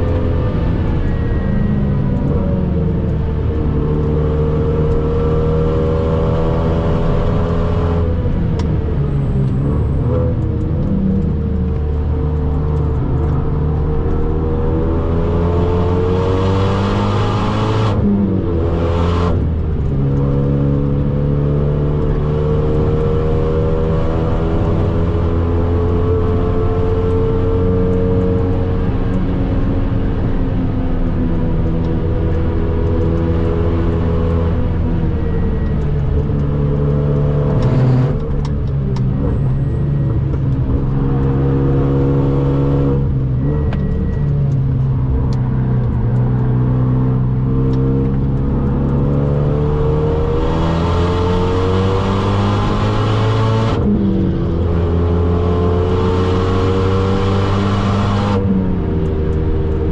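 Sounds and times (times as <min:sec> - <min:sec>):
car engine under hard load: 0:00.0 - 0:59.9.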